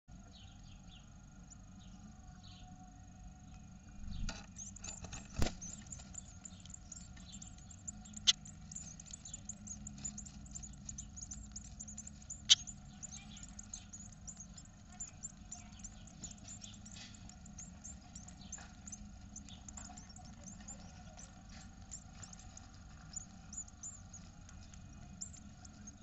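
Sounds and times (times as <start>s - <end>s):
nestlings begging calls: 4.5s - 26.0s
rustle in nest box: 4.6s - 26.0s.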